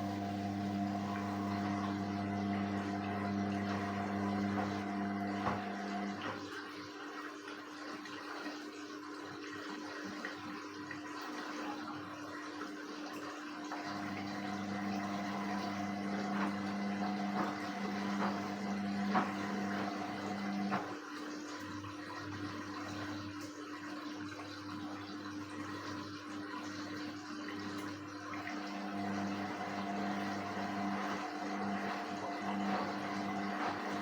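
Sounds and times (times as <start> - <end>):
washing machine motor hum: 0.0 - 34.0
water swishing in washing machine: 0.0 - 34.0.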